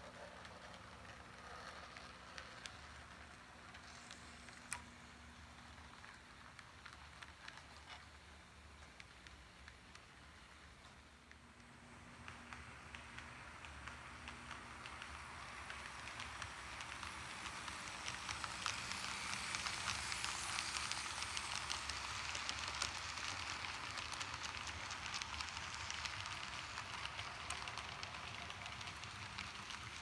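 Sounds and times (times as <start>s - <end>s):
model train wheels rattling: 0.0s - 30.0s.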